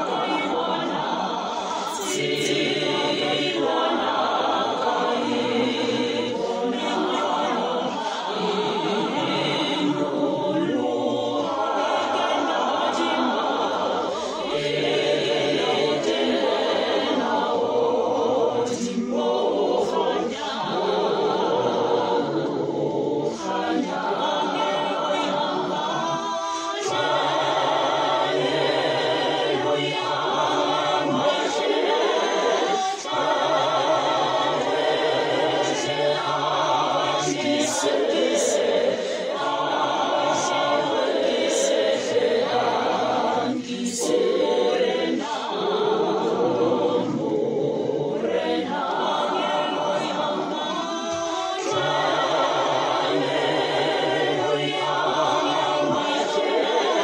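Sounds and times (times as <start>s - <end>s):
man and woman singing a hymn: 0.0s - 57.0s.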